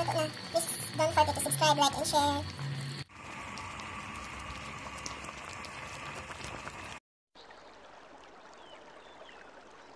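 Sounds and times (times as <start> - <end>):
soup boiling with bubbling hiss: 0.0 - 9.9.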